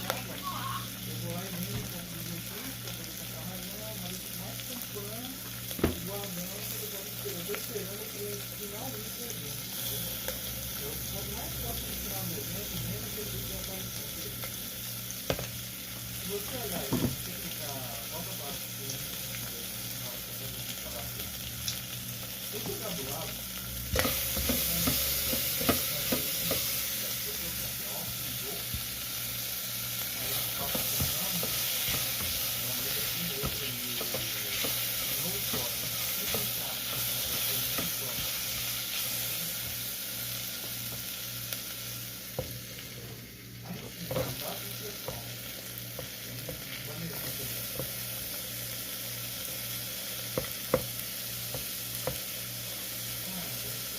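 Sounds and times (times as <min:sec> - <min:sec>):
food sizzling in a pan: 0:00.0 - 0:53.9.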